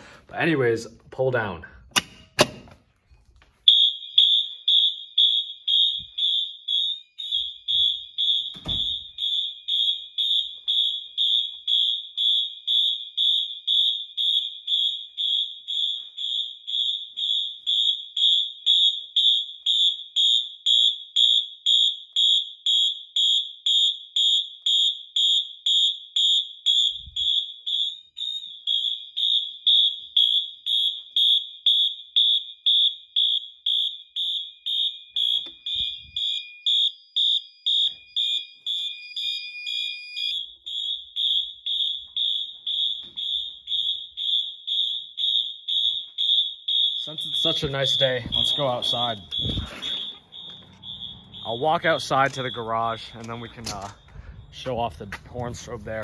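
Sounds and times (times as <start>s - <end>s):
fire alarm horn pulsing: 3.6s - 55.0s.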